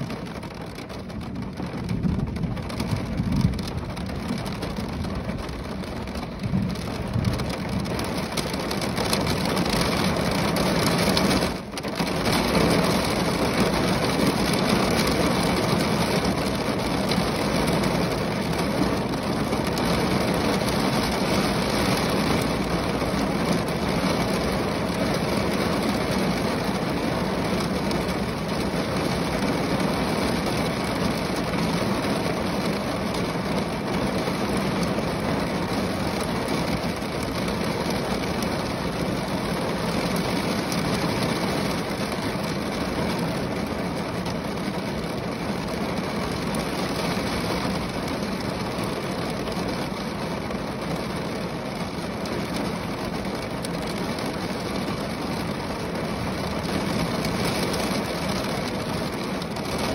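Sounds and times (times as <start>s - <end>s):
rain on a car roof: 0.0s - 59.9s.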